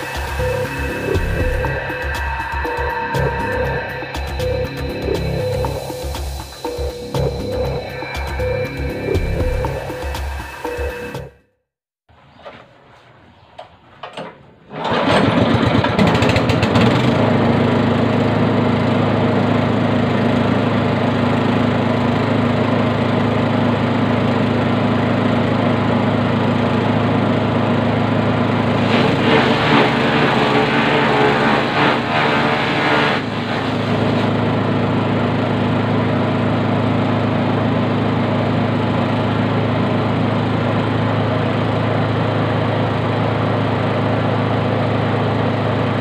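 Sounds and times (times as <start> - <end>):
grass chopper machine running: 0.0 - 10.9, 14.7 - 46.0.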